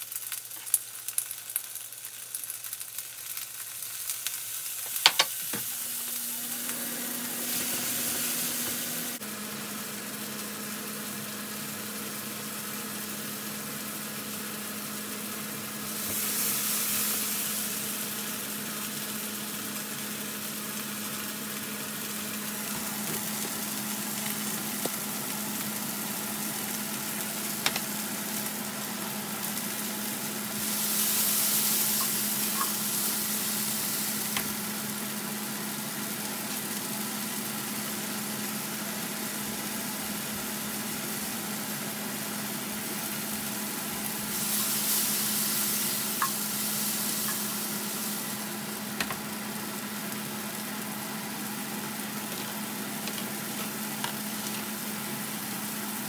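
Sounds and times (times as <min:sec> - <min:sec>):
vegetables sizzling in pan: 0:00.0 - 0:56.0.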